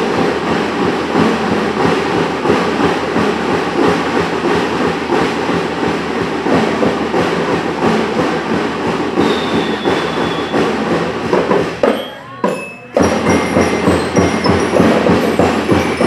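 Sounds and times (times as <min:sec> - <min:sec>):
drum and lyre corps playing: 0:00.0 - 0:16.0
marching drum cadence: 0:00.0 - 0:16.0.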